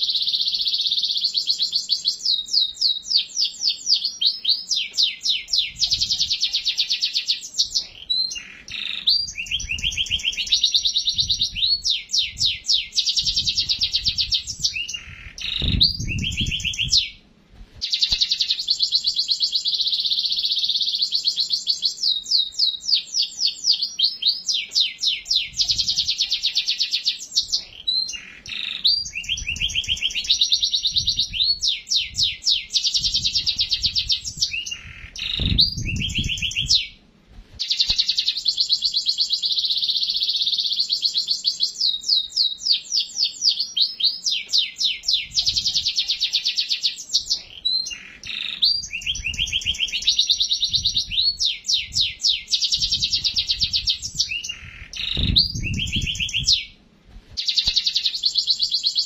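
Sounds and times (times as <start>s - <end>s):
canary singing trills: 0.0s - 17.2s, 17.8s - 37.0s, 37.6s - 59.0s.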